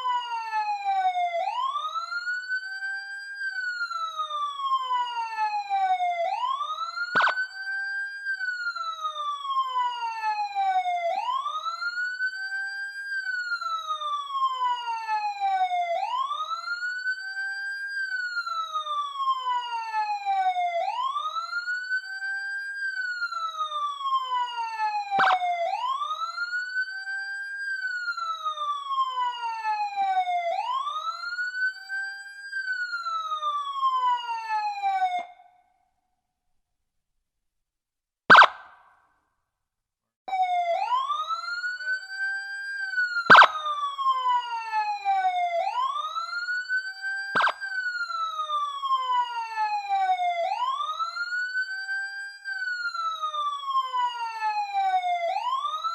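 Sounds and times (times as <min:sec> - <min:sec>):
police siren wailing: 0:00.0 - 0:35.7, 0:38.3 - 0:38.8, 0:40.3 - 0:55.9.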